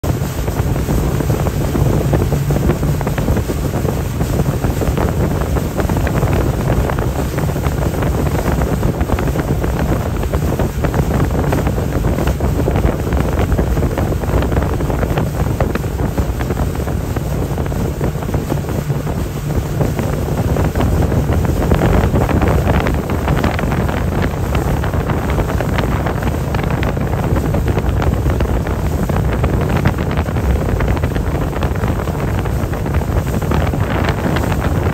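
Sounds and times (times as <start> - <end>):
motorboat engines droning: 0.0 - 34.9
rushing water: 0.0 - 34.9
wind buffeting microphone: 0.0 - 34.9.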